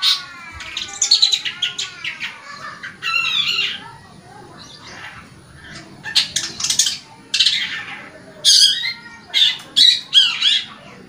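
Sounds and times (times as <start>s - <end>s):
shrike singing: 0.0s - 11.0s.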